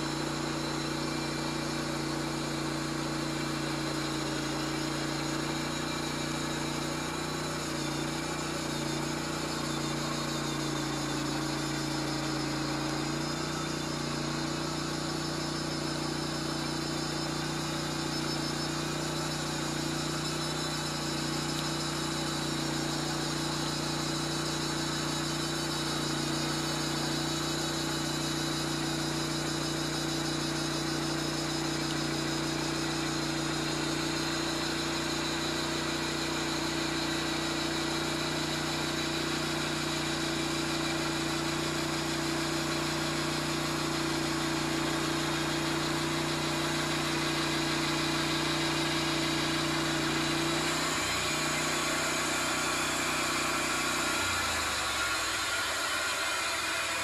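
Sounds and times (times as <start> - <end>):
sawmill engine running under load: 0.0 - 57.0.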